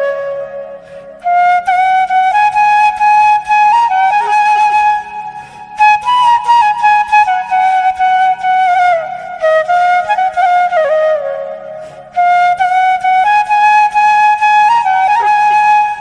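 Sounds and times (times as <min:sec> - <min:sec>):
flute melody: 0:00.0 - 0:16.0.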